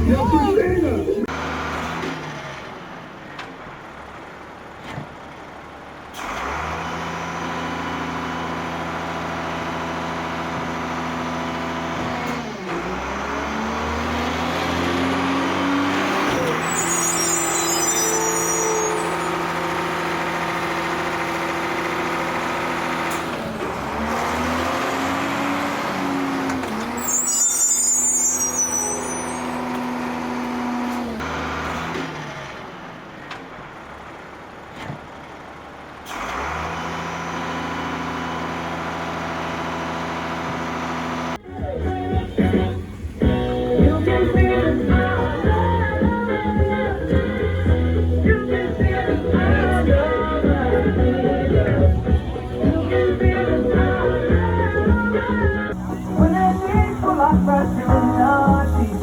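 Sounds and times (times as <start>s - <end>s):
truck diesel engine revving: 0.0s - 59.0s.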